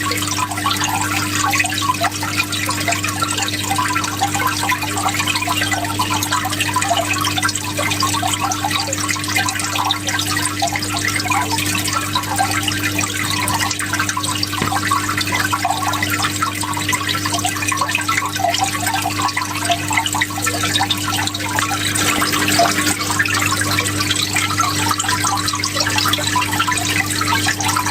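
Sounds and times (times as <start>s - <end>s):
water flowing and bubbling: 0.0s - 27.9s.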